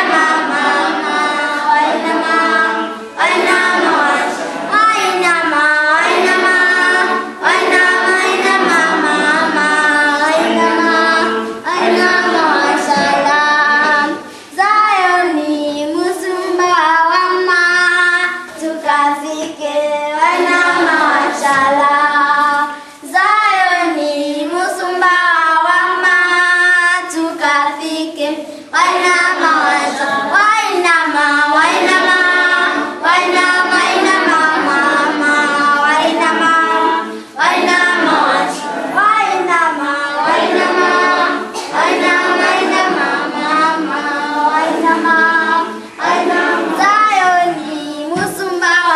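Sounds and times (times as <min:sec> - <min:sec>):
children singing: 0:00.0 - 0:48.9.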